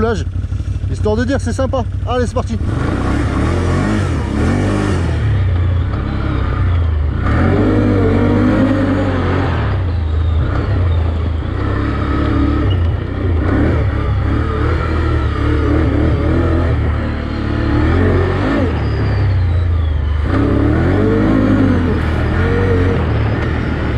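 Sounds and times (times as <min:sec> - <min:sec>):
atv engine revving: 0:00.0 - 0:23.9.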